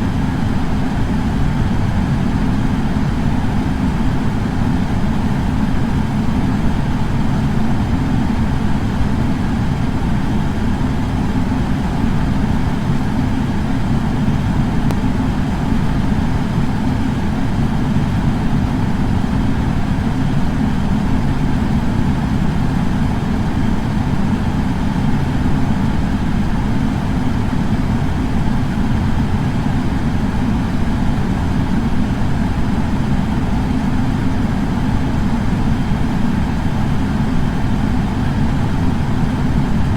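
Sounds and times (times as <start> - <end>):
air purifier fan humming: 0.0 - 39.9.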